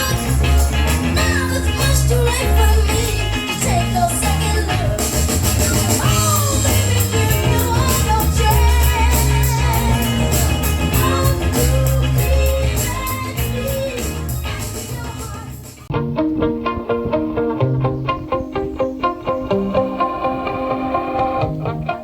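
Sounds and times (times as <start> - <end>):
song with singer and guitar: 0.0 - 22.0.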